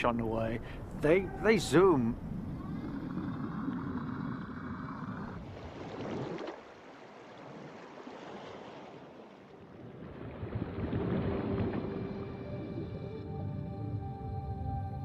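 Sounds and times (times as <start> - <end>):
sea water rushing: 0.8 - 13.7.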